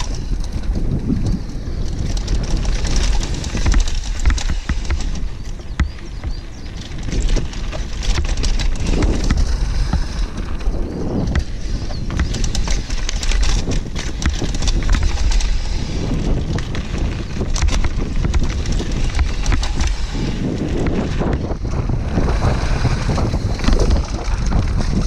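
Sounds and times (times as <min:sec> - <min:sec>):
bike rattling and clicking: 0:00.0 - 0:25.0
tyres rolling over dirt and stones: 0:00.0 - 0:25.0
wind rumble on microphone: 0:00.0 - 0:25.0.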